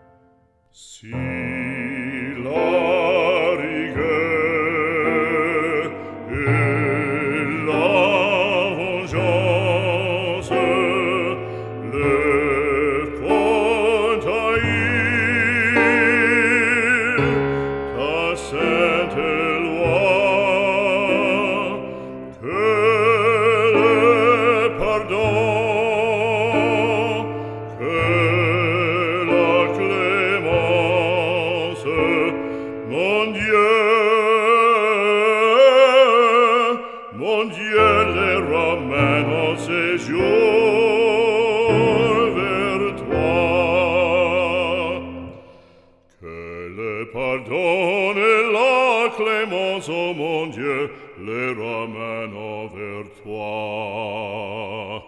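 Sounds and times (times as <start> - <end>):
operatic voice singing: 0.7 - 55.0.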